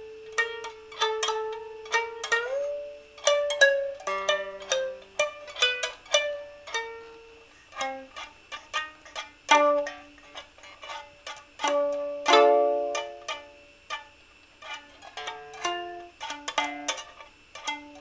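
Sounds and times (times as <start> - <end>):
solo plucked instrumental music: 0.0 - 18.0.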